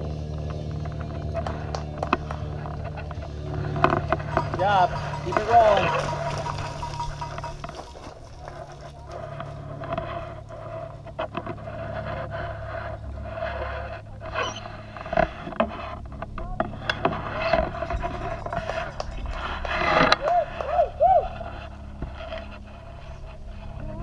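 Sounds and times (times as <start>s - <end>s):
steady hum: 0.0s - 24.0s
scraping and rustling: 0.5s - 20.6s.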